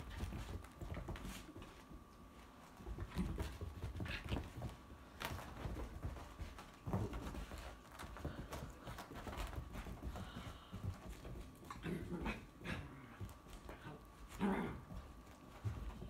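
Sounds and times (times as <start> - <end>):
animals scuffling on carpet: 0.0 - 16.0.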